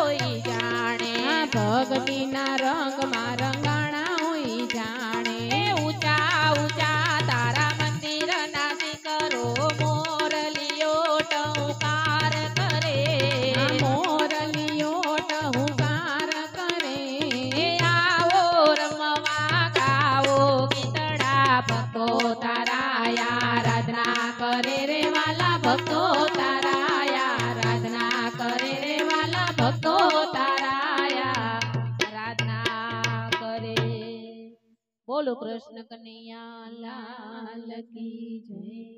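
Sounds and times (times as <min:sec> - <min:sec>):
hand drum: 0:00.0 - 0:34.0.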